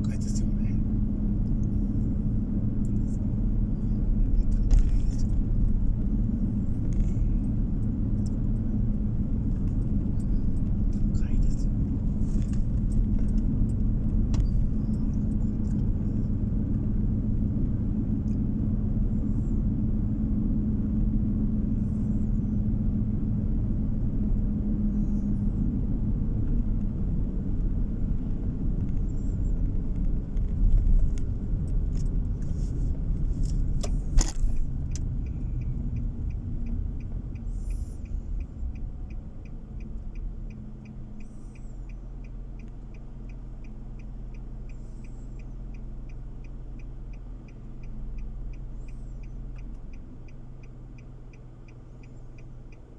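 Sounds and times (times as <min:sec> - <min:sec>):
car road and engine rumble: 0:00.0 - 0:52.9
turn signal ticking: 0:00.0 - 0:52.9.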